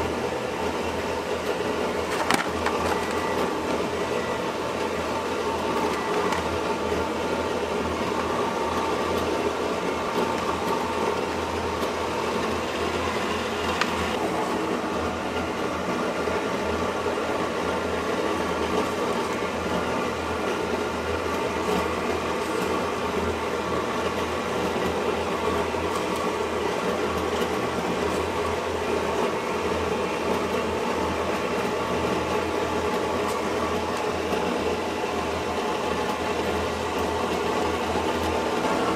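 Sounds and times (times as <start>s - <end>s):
kitchen machinery humming: 0.0s - 38.9s.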